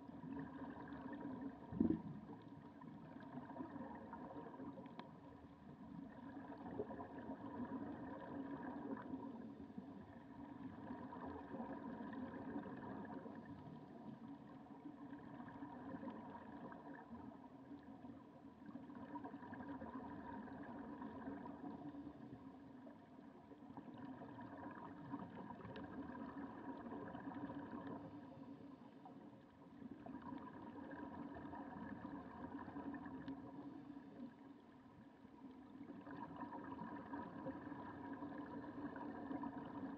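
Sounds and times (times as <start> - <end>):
muffled underwater motor hum: 0.0 - 39.9.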